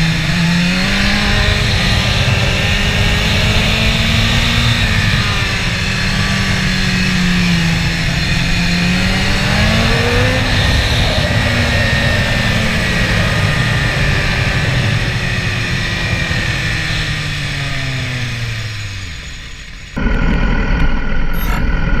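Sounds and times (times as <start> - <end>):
motorcycle engine revving: 0.0 - 22.0
steady low rumble: 1.2 - 22.0.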